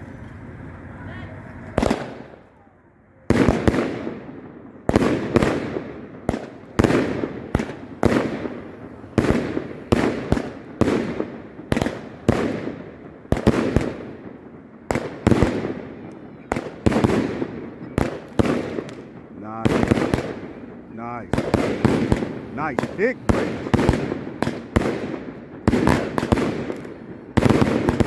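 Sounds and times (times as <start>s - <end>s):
firework bangs: 1.8s - 2.5s, 3.3s - 28.0s.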